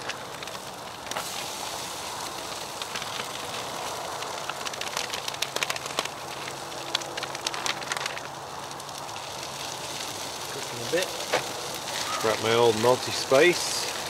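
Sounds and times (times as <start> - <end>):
hash browns poured from a bag: 0.0 - 14.0
sausages sizzling in a pan: 0.0 - 14.0.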